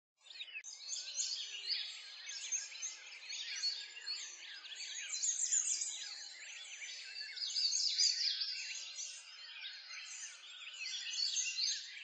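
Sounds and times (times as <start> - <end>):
birds chirping and singing: 0.2 - 12.0.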